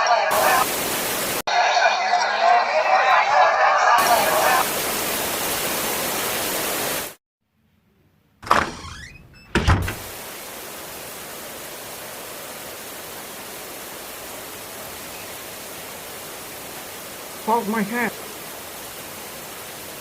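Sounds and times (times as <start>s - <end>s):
flood water rushing: 0.0s - 7.2s, 10.0s - 20.0s.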